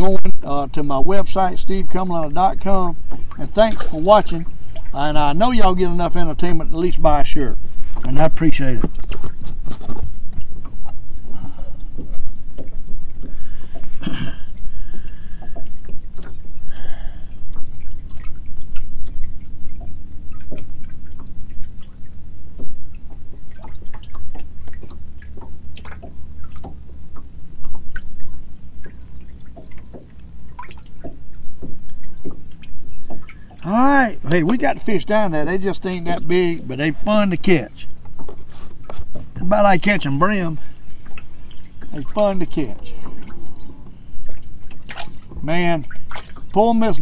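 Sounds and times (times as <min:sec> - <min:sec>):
water lapping and dripping: 0:00.0 - 0:47.0.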